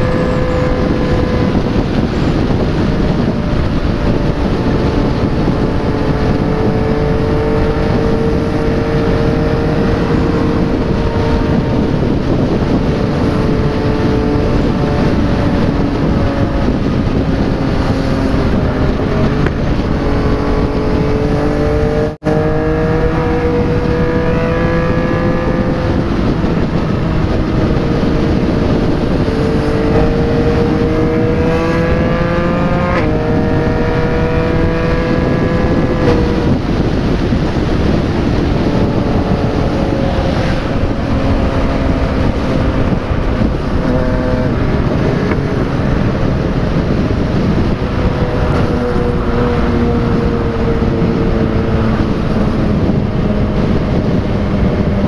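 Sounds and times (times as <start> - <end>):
motorcycle engine revving: 0.0 - 55.0
road noise: 0.0 - 55.0
wind rush: 0.0 - 55.0.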